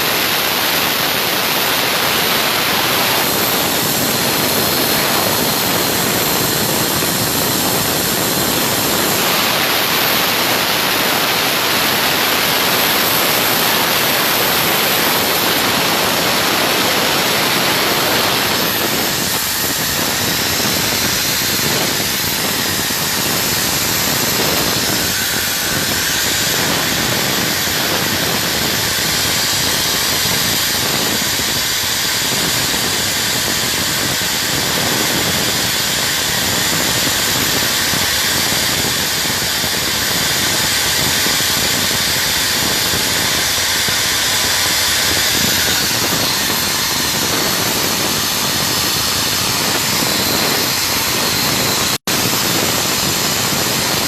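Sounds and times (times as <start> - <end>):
machine hissing rush: 0.0 - 54.0.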